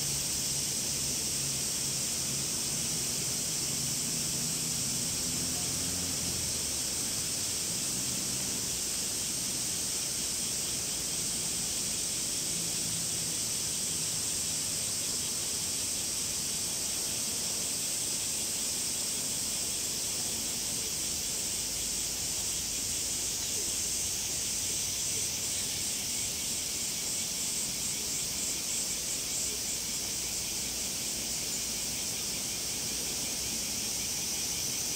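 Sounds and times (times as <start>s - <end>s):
cicadas buzzing: 0.0s - 34.9s
pulsing rhythmic insect call: 0.0s - 34.9s.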